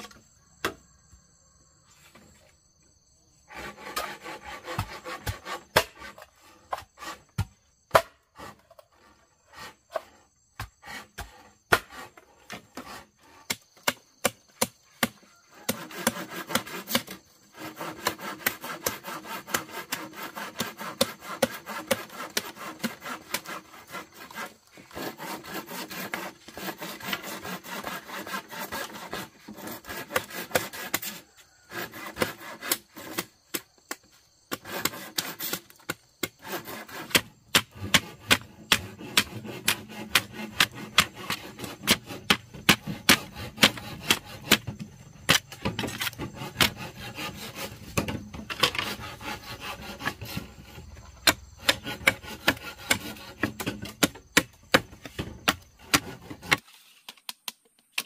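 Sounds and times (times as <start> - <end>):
hand tool scraping wood: 3.4 - 57.3.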